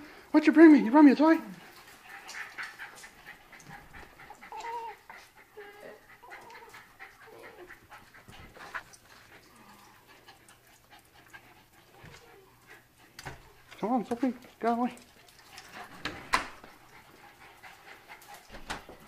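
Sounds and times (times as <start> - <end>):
dogs panting: 0.0 - 19.0.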